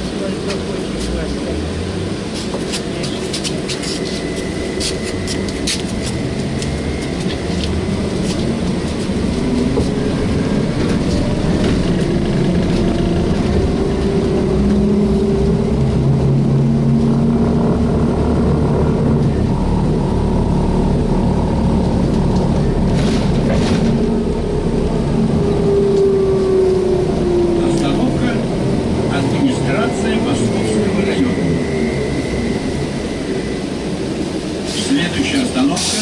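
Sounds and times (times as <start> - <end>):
trolleybus motor whine: 0.0 - 36.0.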